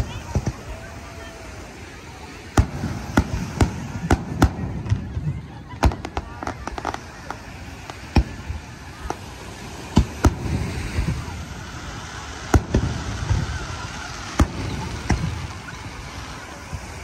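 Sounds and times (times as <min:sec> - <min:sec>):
firework shells bursting: 0:02.5 - 0:05.2, 0:05.8 - 0:16.9.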